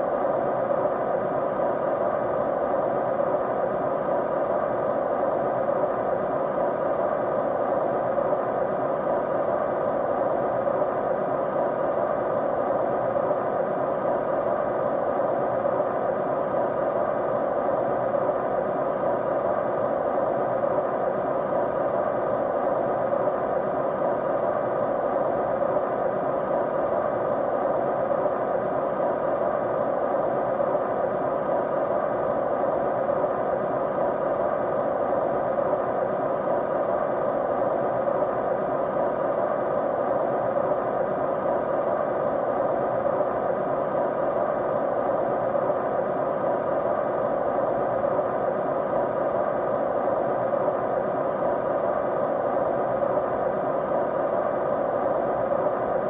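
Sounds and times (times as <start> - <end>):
faint steady hum: 0.0 - 56.0
white noise hiss: 0.0 - 56.0.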